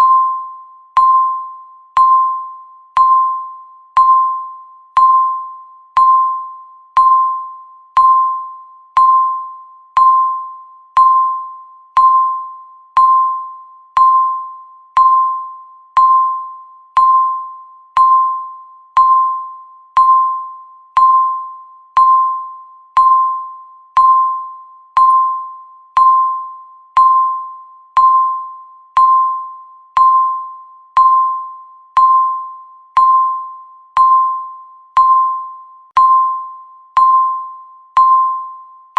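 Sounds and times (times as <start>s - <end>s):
timer beeping: 0.0s - 38.9s.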